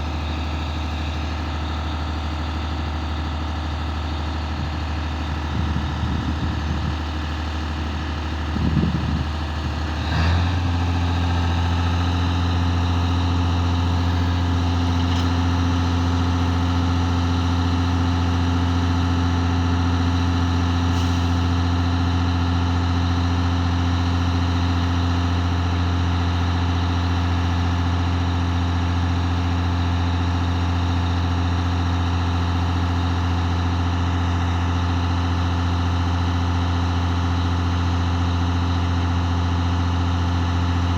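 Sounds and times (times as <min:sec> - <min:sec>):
crane engine humming: 0:00.0 - 0:40.9.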